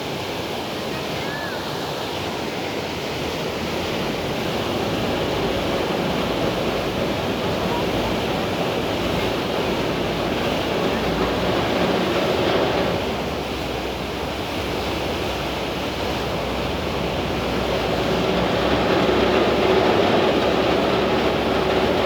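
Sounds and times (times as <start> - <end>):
rush of water and wind: 0.0 - 22.0
low boat engine hum: 2.4 - 22.0.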